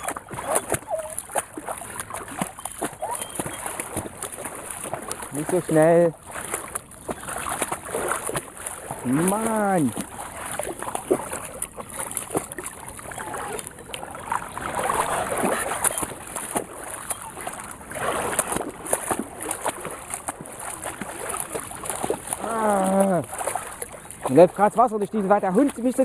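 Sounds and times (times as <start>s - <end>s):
dog splashing through water: 0.0s - 26.0s
footsteps sloshing through water: 0.0s - 26.0s.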